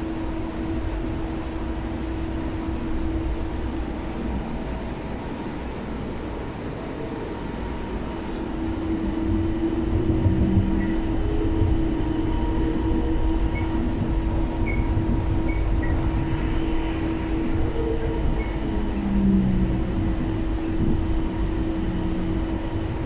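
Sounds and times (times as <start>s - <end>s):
train cabin drone with hum: 0.0s - 23.0s.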